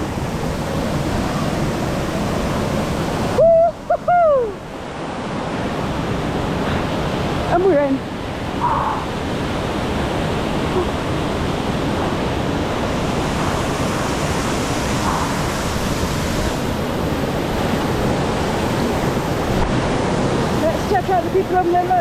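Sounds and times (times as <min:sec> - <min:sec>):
waterfall rushing: 0:00.0 - 0:04.8, 0:06.1 - 0:22.0.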